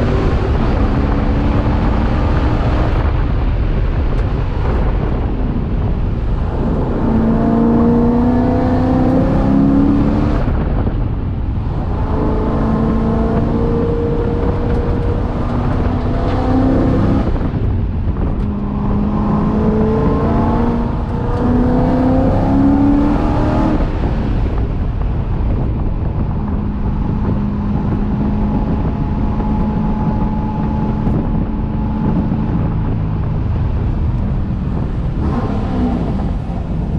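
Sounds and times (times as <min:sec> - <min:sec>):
race car engine revving: 0:00.0 - 0:36.9
road and wind noise: 0:00.0 - 0:36.9.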